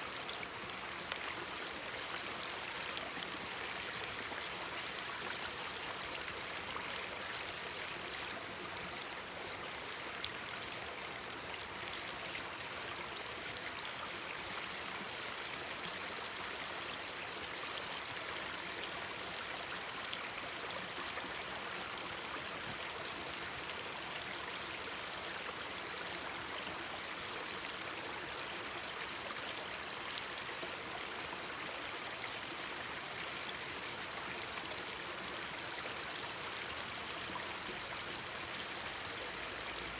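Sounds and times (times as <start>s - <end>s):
mountain stream babbling: 0.0s - 39.9s.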